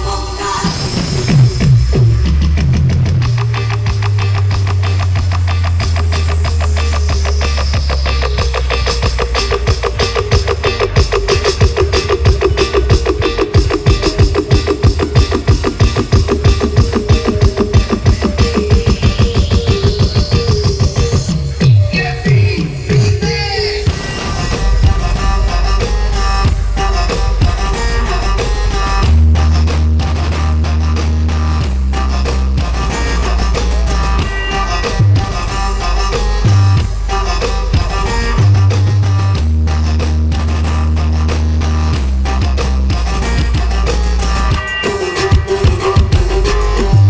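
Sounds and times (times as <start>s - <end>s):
loud music with deep bass: 0.0s - 47.0s.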